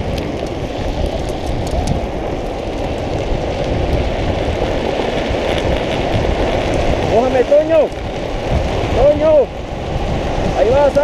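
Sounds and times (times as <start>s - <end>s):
plastic wheels rolling on asphalt: 0.0s - 11.0s
wind buffeting microphone: 0.0s - 11.0s.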